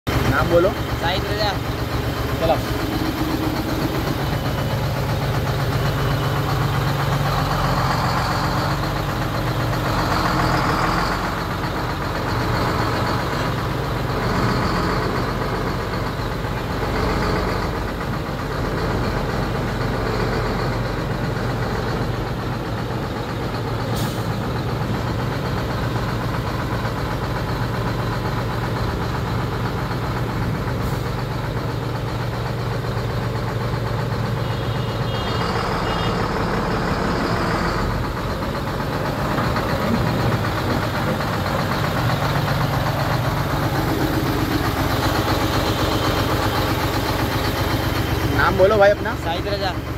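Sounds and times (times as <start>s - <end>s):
crane engine revving: 0.1s - 49.9s.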